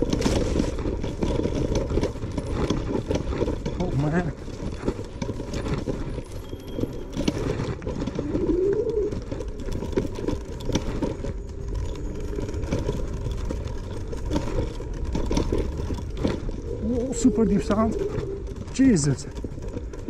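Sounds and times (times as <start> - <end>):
electric scooter motor hum: 0.0 - 20.0
rattles and knocks from bumps: 0.0 - 20.0.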